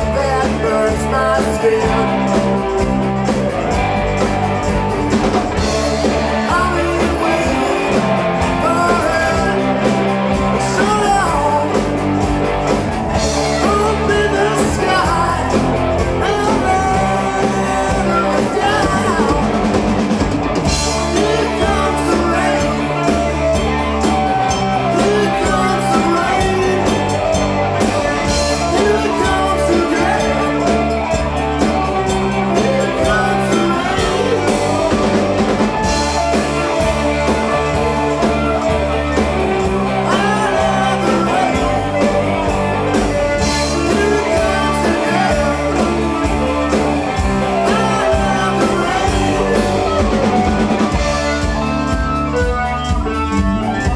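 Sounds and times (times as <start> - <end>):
person singing: 0.0 - 3.1, 5.5 - 12.2, 13.2 - 52.0
rock band playing: 0.0 - 53.9.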